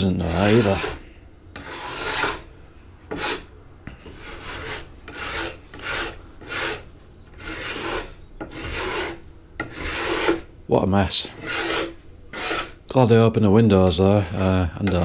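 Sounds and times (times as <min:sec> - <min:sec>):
scraper rasping on wood: 0:00.0 - 0:01.0, 0:01.6 - 0:02.5, 0:03.1 - 0:10.5, 0:11.3 - 0:12.8, 0:13.8 - 0:15.0.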